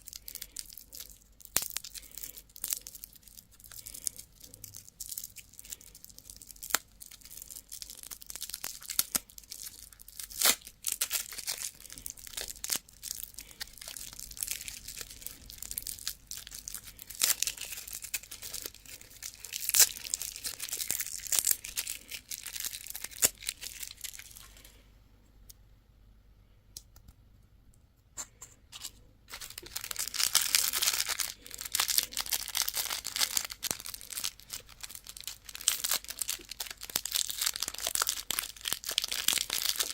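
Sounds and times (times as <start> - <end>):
candy wrappers crinkling: 0.0 - 24.8, 28.8 - 39.9.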